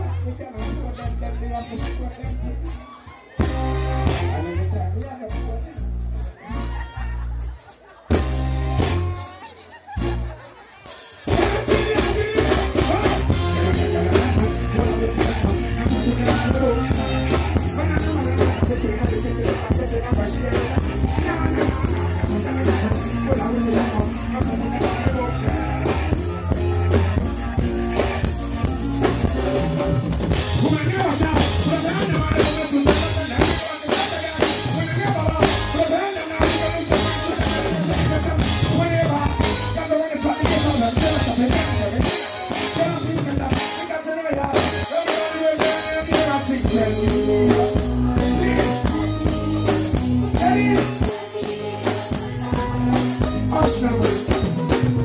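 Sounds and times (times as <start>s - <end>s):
live band playing: 0.0s - 55.0s
drum kit beat: 3.4s - 55.0s.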